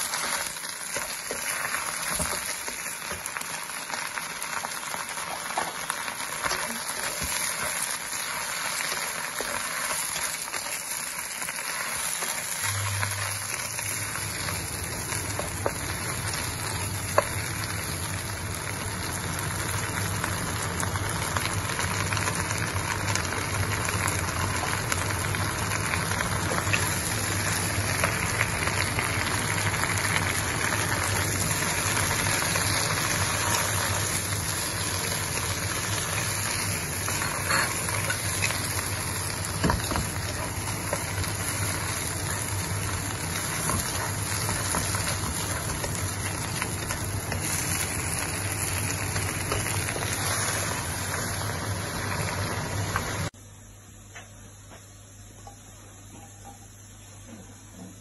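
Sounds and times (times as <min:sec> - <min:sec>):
greens sizzling in a wok: 0:00.0 - 0:53.4.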